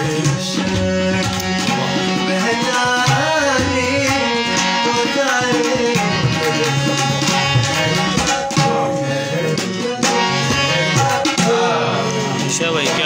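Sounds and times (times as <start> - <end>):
harmonium chords: 0.0 - 13.0
man singing: 0.0 - 13.0
tabla drumming: 0.0 - 13.0.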